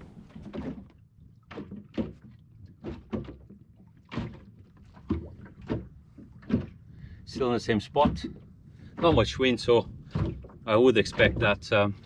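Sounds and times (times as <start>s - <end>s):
waves slapping wooden hull: 0.0s - 12.0s.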